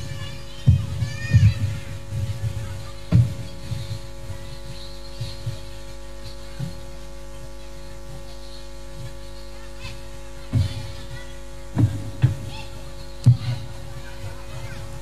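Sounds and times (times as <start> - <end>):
low thumps: 0.0 - 9.5, 10.1 - 15.0
electrical hum from amplifiers: 0.0 - 15.0.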